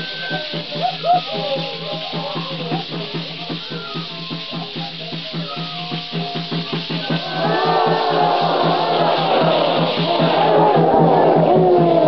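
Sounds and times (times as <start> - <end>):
reed flute melody: 0.0 - 11.0
burst of voices: 0.0 - 12.0
rattles shaken: 0.0 - 12.0
steady drum beat: 0.0 - 12.0.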